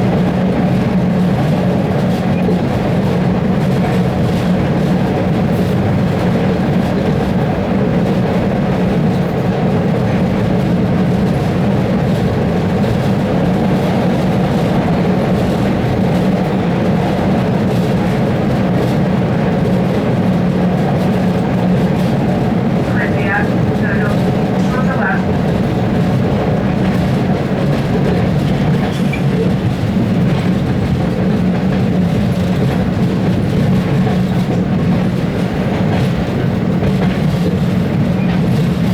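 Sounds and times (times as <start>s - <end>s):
subway wheels on rails: 0.0s - 38.9s.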